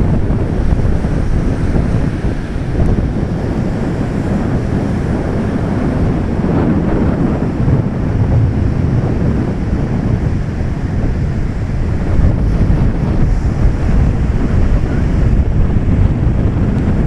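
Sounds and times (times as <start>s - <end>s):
waves breaking: 0.0s - 17.0s
wind buffeting microphone: 0.0s - 17.0s.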